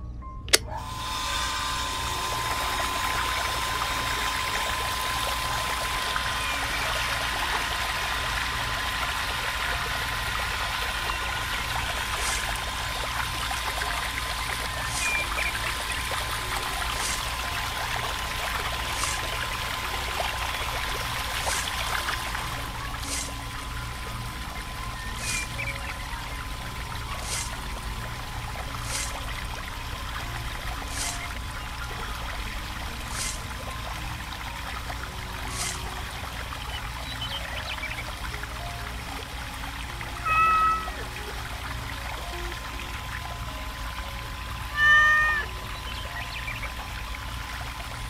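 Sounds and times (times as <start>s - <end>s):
small electric pump whining: 0.5s - 48.0s
water pouring and splashing: 0.8s - 48.0s.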